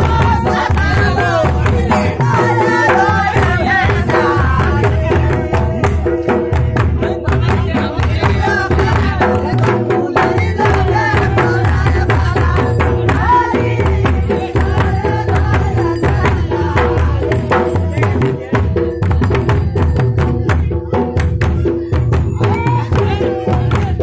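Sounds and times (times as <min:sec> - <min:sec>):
barrel drums beaten: 0:00.0 - 0:24.0
voices: 0:00.0 - 0:24.0.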